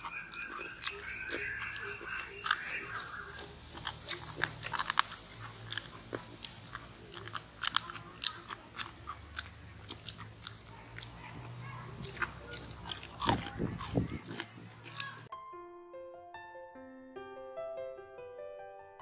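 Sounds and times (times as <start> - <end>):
crunchy fried food being chewed: 0.0 - 15.3.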